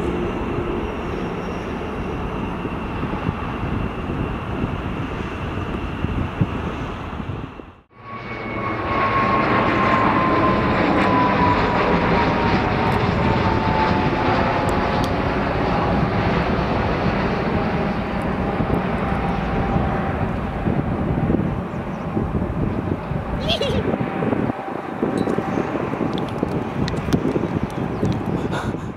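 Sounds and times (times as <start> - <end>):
jet engine rumble: 0.0 - 28.9
jet engine whine falling in pitch: 0.0 - 28.9.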